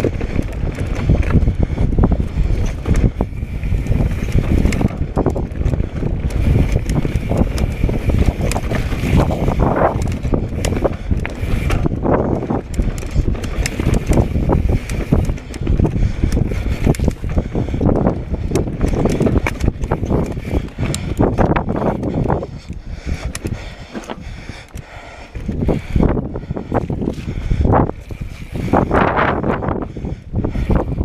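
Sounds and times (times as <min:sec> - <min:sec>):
bike clattering and knocking: 0:00.0 - 0:24.8
wind noise on microphone: 0:00.0 - 0:31.0.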